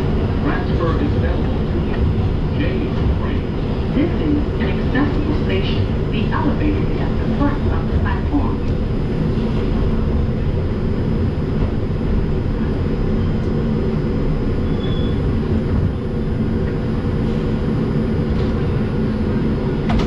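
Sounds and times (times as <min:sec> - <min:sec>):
subway car equipment humming: 0:00.0 - 0:20.0.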